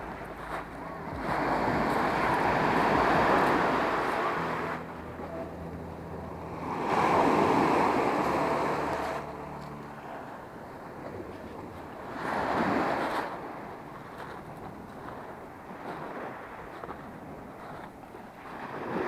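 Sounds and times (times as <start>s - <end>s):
sea waves washing against rocks: 0.0s - 4.9s, 6.4s - 19.0s.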